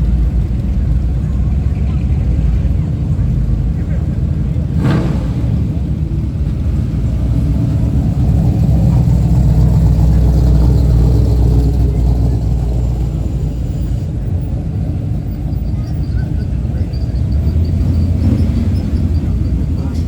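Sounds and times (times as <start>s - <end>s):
pickup truck exhaust rumble: 0.0s - 20.0s.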